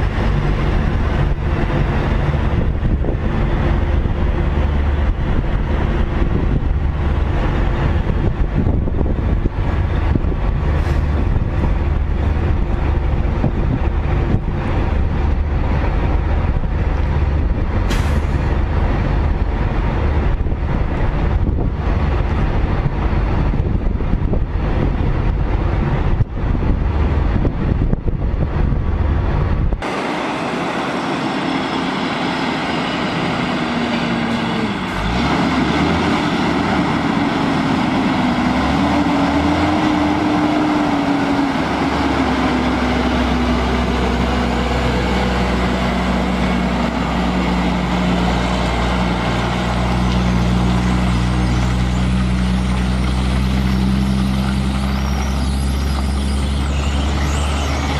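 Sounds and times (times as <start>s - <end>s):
low rumble: 0.0s - 57.9s
truck diesel engine running: 0.0s - 57.9s
wind buffeting microphone: 0.0s - 57.9s.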